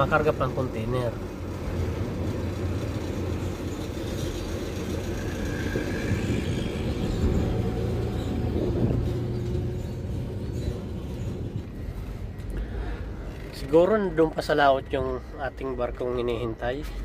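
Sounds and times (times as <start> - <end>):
truck engine low rumble: 0.0 - 17.0.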